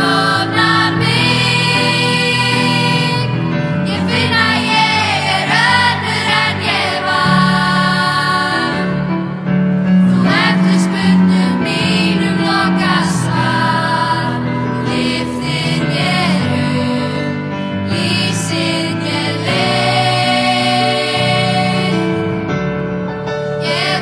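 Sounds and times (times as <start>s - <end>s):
girls choir singing: 0.0s - 9.2s, 10.0s - 22.4s, 23.6s - 24.0s
grand piano: 0.0s - 24.0s.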